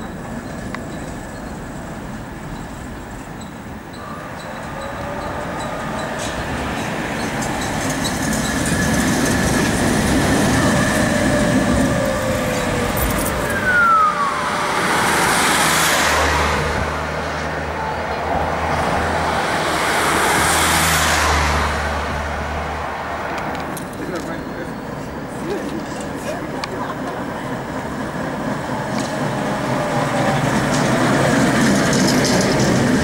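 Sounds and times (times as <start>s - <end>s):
passing road traffic: 0.0s - 33.0s
tram rumbling on rails: 0.0s - 33.0s
tram whine: 0.0s - 33.0s.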